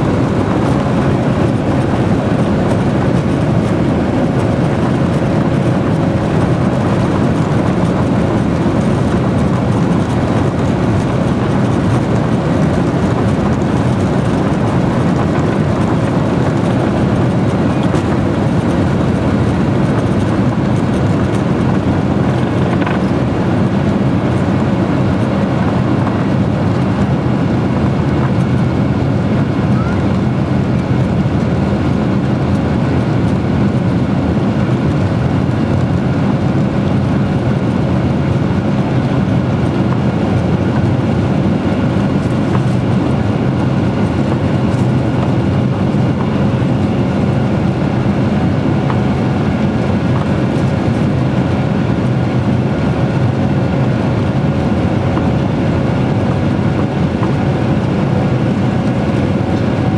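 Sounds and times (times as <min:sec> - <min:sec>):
jet engines roaring in cabin: 0:00.0 - 0:59.9.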